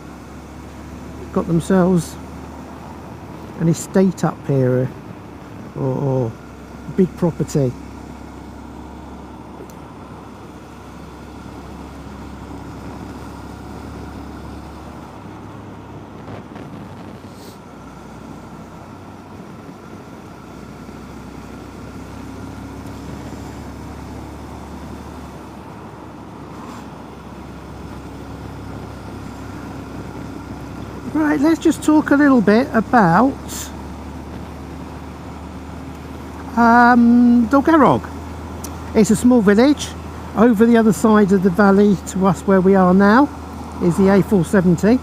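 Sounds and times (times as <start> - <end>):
low wind rumble: 0.0 - 41.8.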